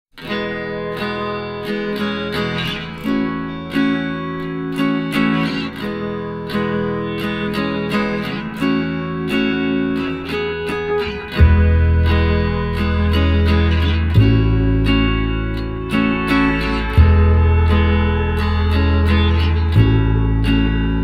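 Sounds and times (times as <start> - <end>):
acoustic guitar music: 0.1 - 21.0.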